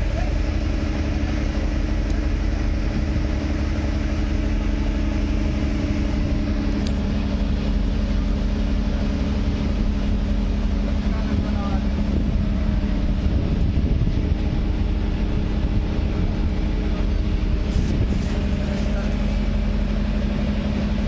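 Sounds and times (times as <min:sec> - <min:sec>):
heavy machinery humming: 0:00.0 - 0:21.0.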